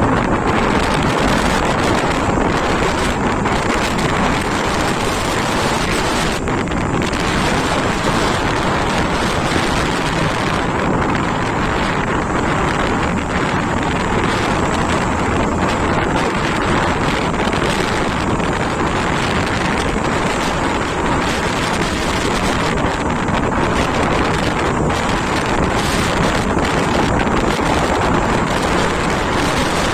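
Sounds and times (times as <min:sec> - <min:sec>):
motorcycle running: 0:00.0 - 0:29.9
wind buffeting microphone: 0:00.0 - 0:29.9.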